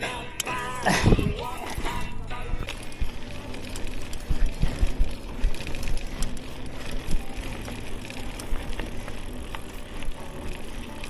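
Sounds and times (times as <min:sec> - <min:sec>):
bike clicks and rattles: 0:00.0 - 0:11.0
wind buffeting microphone: 0:00.9 - 0:11.0.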